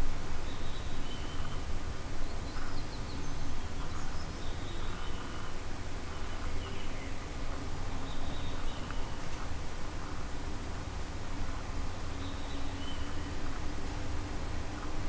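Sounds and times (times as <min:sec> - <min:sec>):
small birds chirping: 0:00.4 - 0:10.3, 0:11.5 - 0:13.7.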